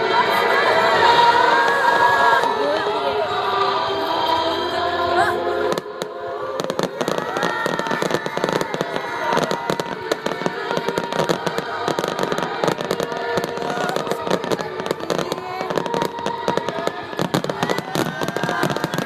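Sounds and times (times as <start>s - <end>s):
choral music: 0.0s - 19.0s
fireworks crackling and banging: 0.0s - 19.0s.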